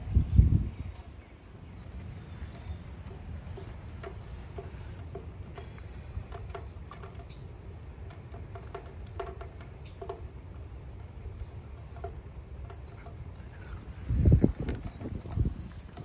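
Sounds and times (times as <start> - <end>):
low steady rumble: 0.0 - 16.0
rain pattering and dripping: 1.8 - 16.0.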